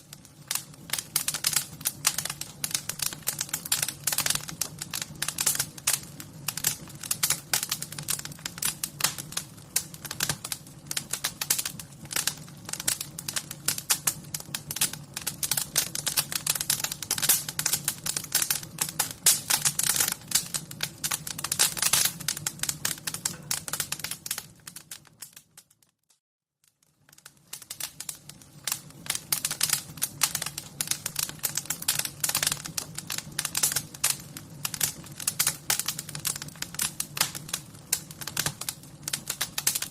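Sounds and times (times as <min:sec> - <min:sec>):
low fire rumble: 0:00.0 - 0:25.3, 0:26.9 - 0:39.9
wood fire crackling: 0:00.0 - 0:26.0, 0:26.6 - 0:39.9.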